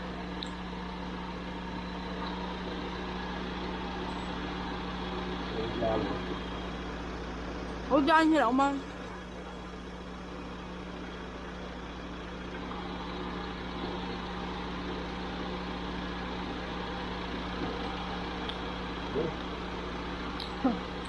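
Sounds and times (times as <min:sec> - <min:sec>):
air conditioning hum: 0:00.0 - 0:21.0
car engine idling: 0:00.0 - 0:21.0.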